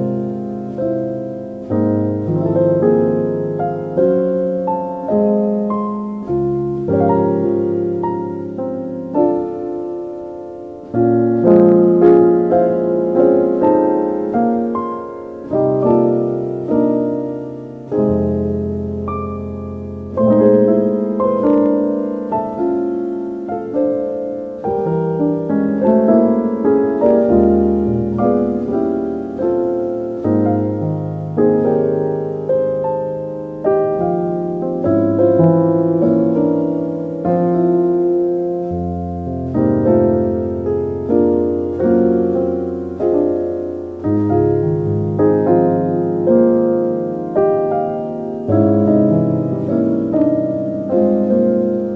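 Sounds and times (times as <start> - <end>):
slow solo piano: 0.0 - 51.9.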